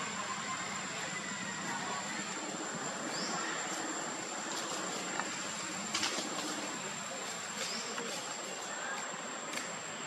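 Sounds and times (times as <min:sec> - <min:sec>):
insect drone: 0:00.0 - 0:10.0
dry leaves crackling: 0:00.1 - 0:09.7.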